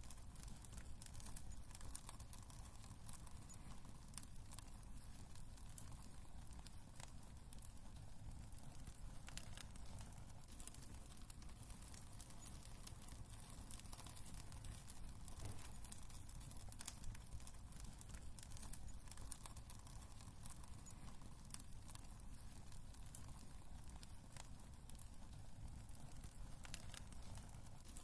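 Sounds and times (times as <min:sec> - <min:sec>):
fire low rumble: 0:00.0 - 0:28.0
logs crackling and popping: 0:00.0 - 0:28.0.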